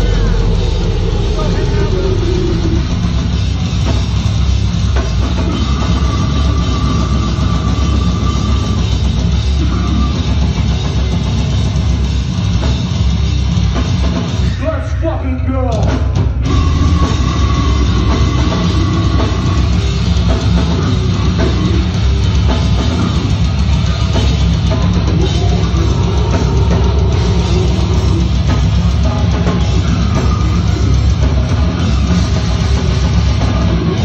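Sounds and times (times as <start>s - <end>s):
death metal band playing: 0.0s - 34.0s.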